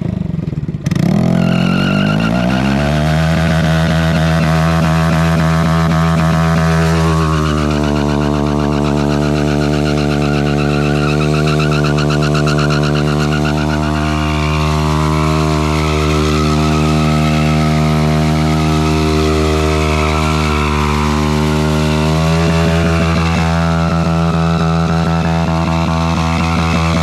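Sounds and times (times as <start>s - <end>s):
motorcycle engine revving high: 0.0s - 27.0s.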